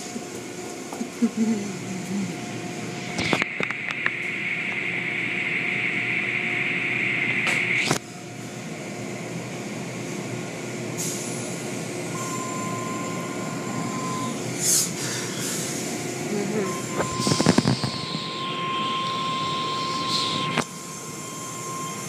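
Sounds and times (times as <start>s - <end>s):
car wash machinery running: 0.0s - 22.0s.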